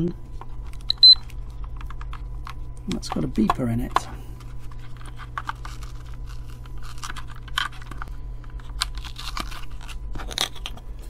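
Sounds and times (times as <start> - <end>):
low hum: 0.0 - 11.0
battery clicking and scraping: 0.3 - 11.0.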